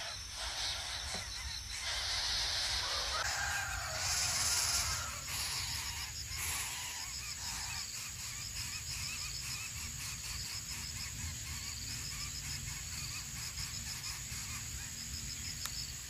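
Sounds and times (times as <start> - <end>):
bird chirps: 0.0 - 15.9
high-pitched insect drone: 0.0 - 16.0.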